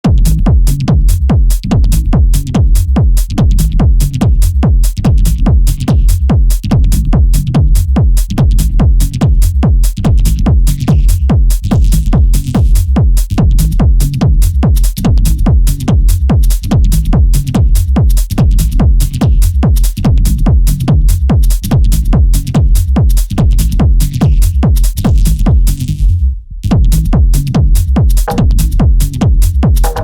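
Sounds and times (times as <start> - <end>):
drum machine beat: 0.0 - 25.8, 26.6 - 30.0
heavy sliding bass line: 0.0 - 30.0.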